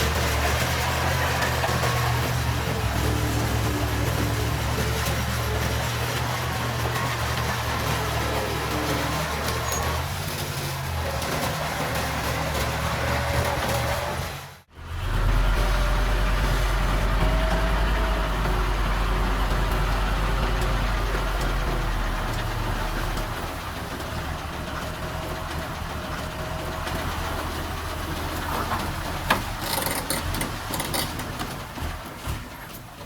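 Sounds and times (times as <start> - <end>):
diesel engine low rumble: 0.0 - 33.0.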